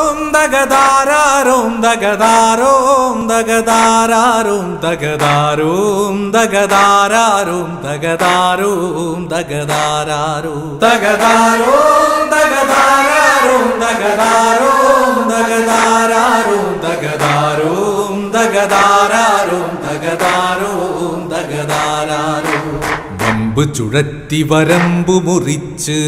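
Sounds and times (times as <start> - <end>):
person singing chant-like melody: 0.0 - 26.0.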